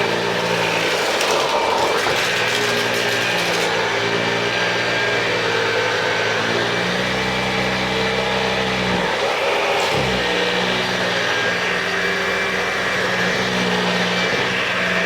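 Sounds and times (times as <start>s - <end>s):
vacuum cleaner running on carpet: 0.0s - 15.0s.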